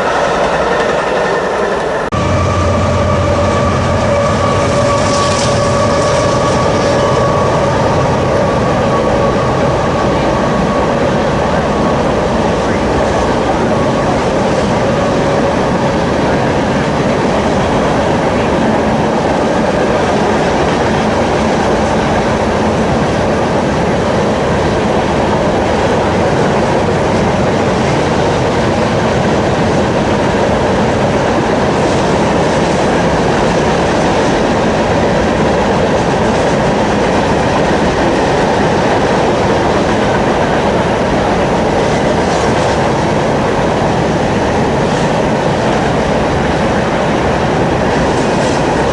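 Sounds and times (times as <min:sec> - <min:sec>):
train wheels rolling on rails: 0:00.0 - 0:48.9.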